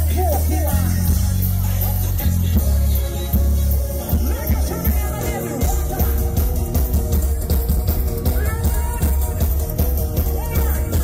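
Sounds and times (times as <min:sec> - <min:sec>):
live band upbeat carnival music: 0:00.0 - 0:11.0.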